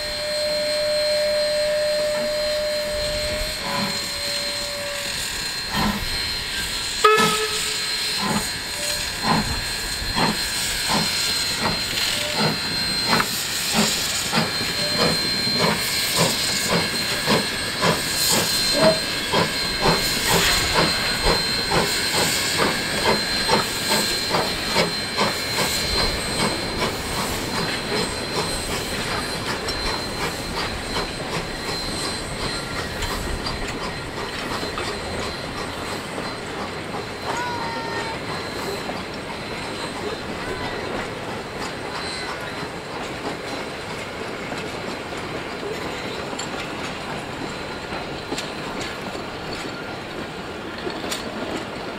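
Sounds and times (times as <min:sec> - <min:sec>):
steam hissing: 0:00.0 - 0:51.9
steam locomotive exhaust chuffing: 0:00.0 - 0:51.9.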